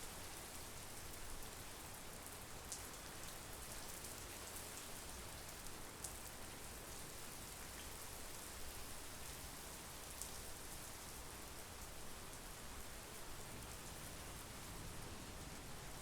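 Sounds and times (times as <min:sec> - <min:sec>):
rain on ground and trees: 0:00.0 - 0:16.0.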